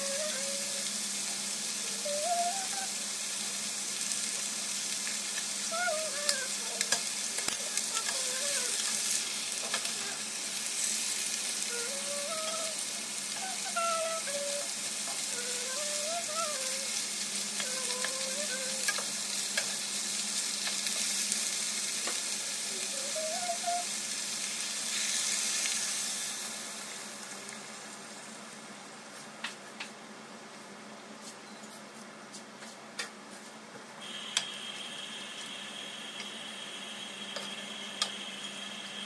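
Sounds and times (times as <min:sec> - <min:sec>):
fish sizzling in a pan: 0:00.0 - 0:28.6, 0:34.0 - 0:39.0.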